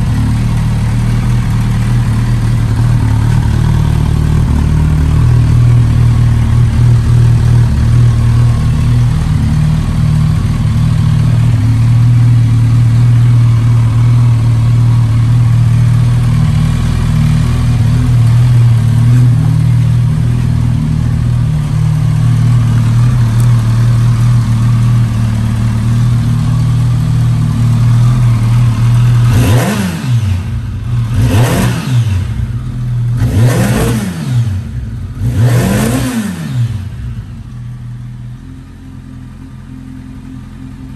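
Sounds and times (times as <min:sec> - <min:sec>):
motorcycle throttle revving: 0:00.0 - 0:38.0
motorcycle engine idling: 0:00.0 - 0:40.9.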